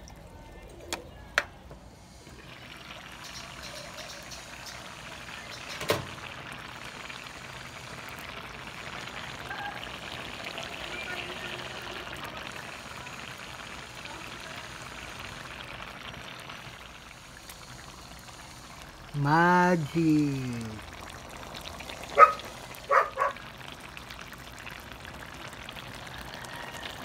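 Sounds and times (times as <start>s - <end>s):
stew bubbling in pan: 0.0s - 27.0s.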